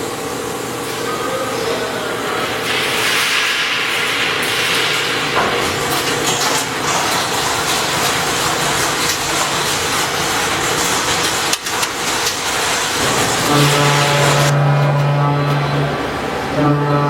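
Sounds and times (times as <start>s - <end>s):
machine cutting metal: 2.4s - 16.5s.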